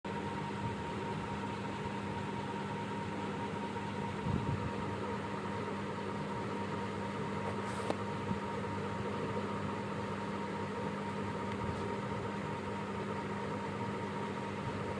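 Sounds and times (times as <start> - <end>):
machine hum with whine: 0.1 - 14.9.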